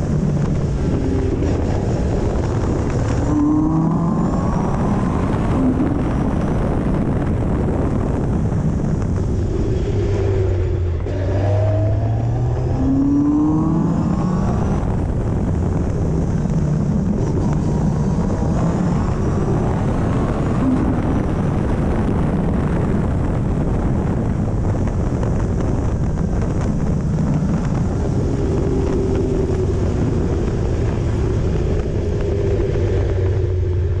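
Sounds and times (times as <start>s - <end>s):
car engine revving: 0.0s - 34.0s
wind rushing: 0.0s - 34.0s.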